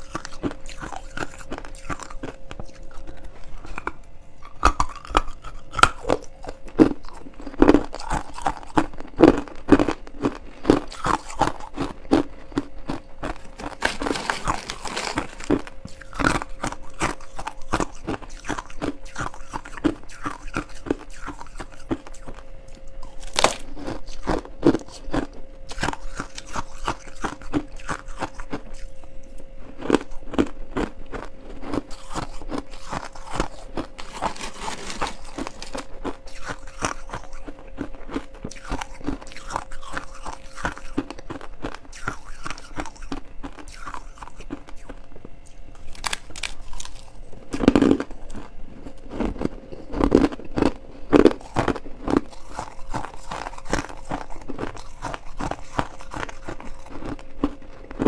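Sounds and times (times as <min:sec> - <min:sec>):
crunching shaved ice: 0:00.0 - 0:45.0, 0:45.7 - 0:58.0.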